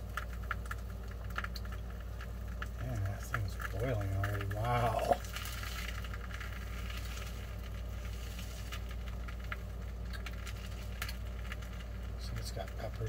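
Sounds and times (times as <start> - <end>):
faint bubbling ticks: 0.0 - 13.0
steady low hum: 0.0 - 13.0.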